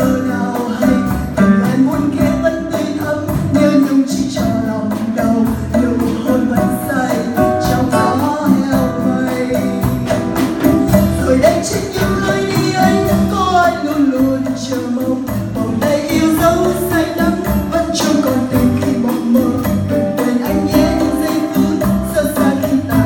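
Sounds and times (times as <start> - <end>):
live band with drums and keyboard: 0.0 - 23.0.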